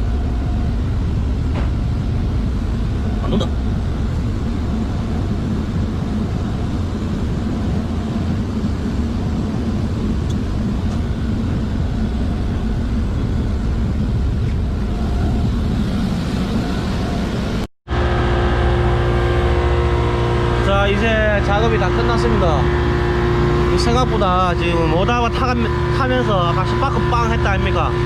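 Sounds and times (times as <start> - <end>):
hum with held tones: 0.0 - 28.0
machinery droning: 0.0 - 28.0.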